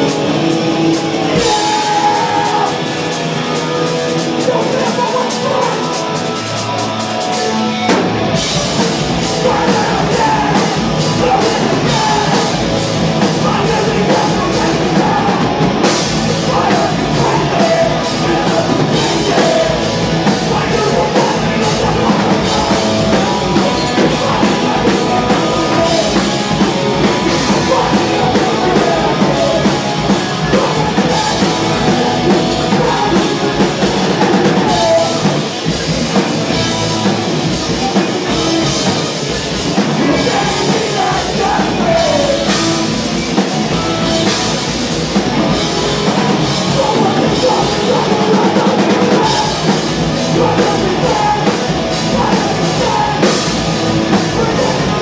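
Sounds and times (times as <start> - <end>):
shouted vocals: 0.0 - 36.2, 37.5 - 44.3, 45.3 - 55.0
distorted electric guitars: 0.0 - 55.0
drum kit: 0.0 - 55.0.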